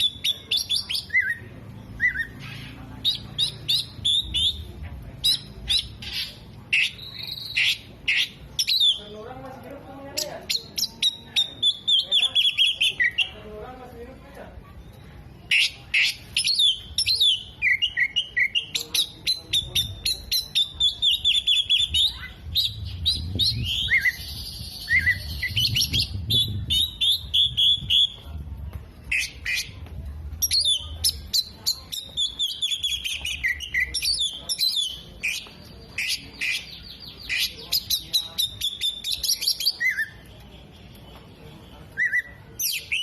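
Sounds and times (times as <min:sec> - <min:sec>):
bird singing chirps and trills: 0:00.0 - 0:09.2, 0:14.8 - 0:28.2, 0:30.4 - 0:43.0.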